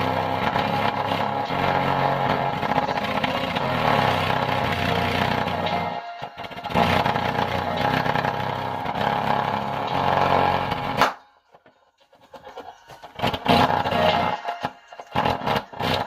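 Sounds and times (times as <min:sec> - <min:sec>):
distorted subwoofer bass notes: 0:00.0 - 0:11.1, 0:13.2 - 0:16.0.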